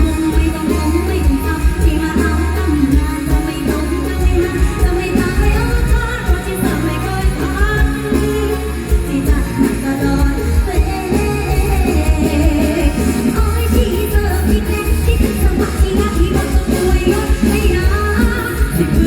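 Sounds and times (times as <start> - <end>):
live band playing: 0.0 - 19.0
person singing: 0.0 - 19.0.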